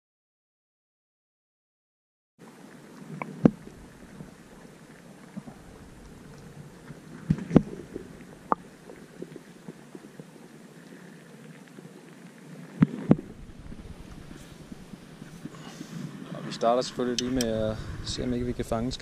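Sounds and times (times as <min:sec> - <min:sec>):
muffled underwater rumbling hiss: 0:02.4 - 0:19.0.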